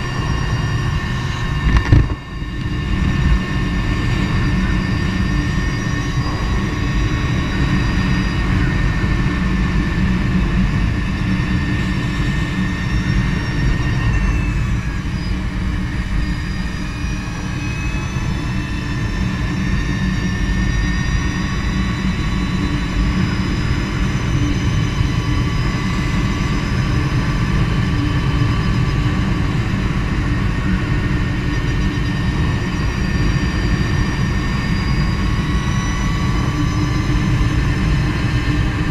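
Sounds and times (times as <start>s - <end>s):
electric motorcycle whine: 0.0s - 38.9s
wind rumble on microphone: 0.0s - 38.9s.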